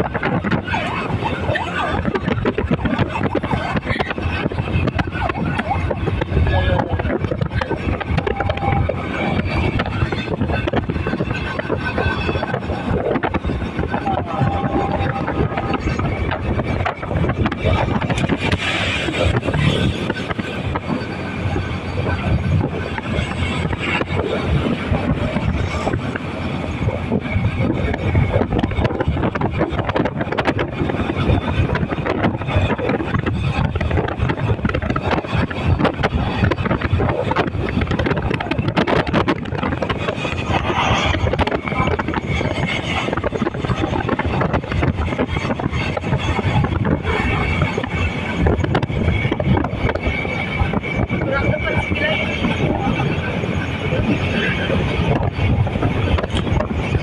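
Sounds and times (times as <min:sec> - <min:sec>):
rushing wind: 0:00.0 - 0:57.0
tyres and engine rumbling: 0:00.0 - 0:57.0.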